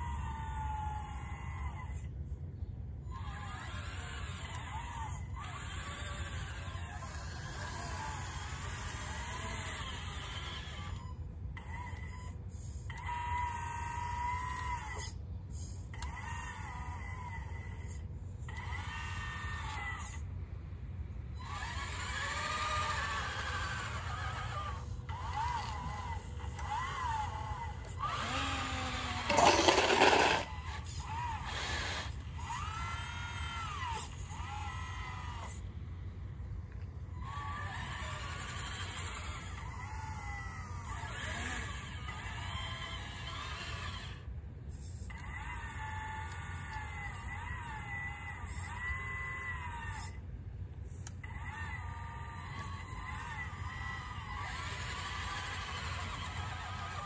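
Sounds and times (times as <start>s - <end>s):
electric motors whining: 0.0s - 57.0s
steady low hum: 0.0s - 57.0s.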